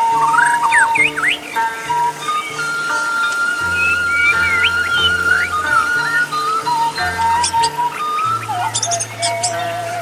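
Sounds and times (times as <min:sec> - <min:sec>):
bamboo flute note: 0:00.0 - 0:10.0
bird singing whistles: 0:00.0 - 0:10.0
soft plucked zither backing: 0:00.0 - 0:10.0.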